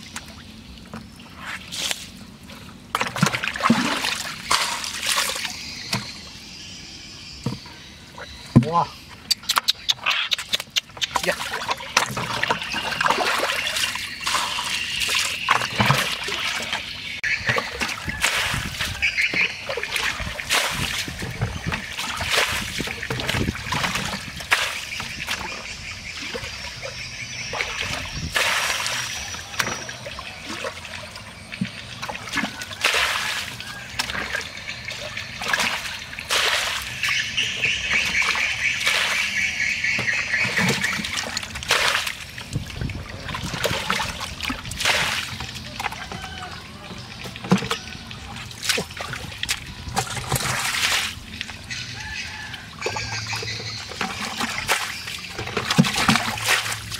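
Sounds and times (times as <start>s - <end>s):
bucket scooping muddy water: 0.0s - 6.5s, 7.4s - 56.9s
water splashing and sloshing: 0.0s - 56.9s.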